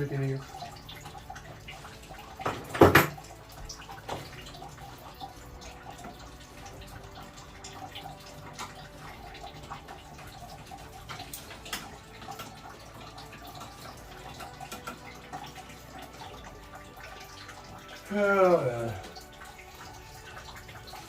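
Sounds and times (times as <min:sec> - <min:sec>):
water trickling and dripping: 0:00.0 - 0:21.0.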